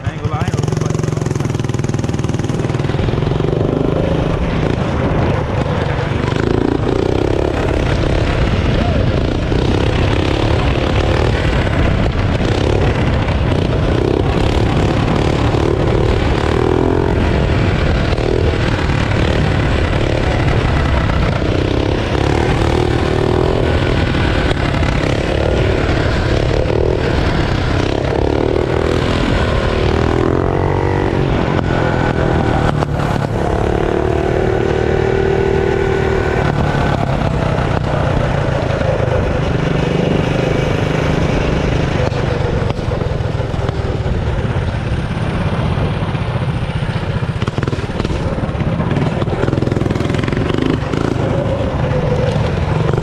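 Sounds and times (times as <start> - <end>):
mini bike engine running: 0.0 - 53.0
wind rumble on microphone: 0.0 - 53.0.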